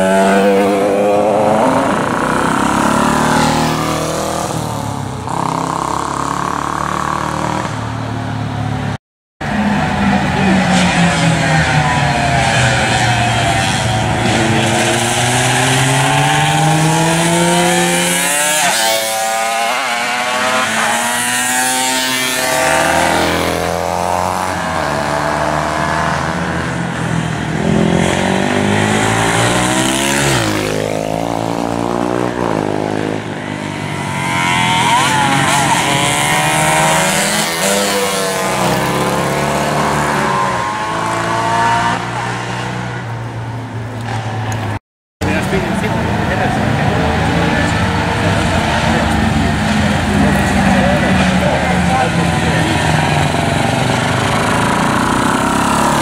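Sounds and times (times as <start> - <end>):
racing motorcycle engines revving: 0.0 - 56.0.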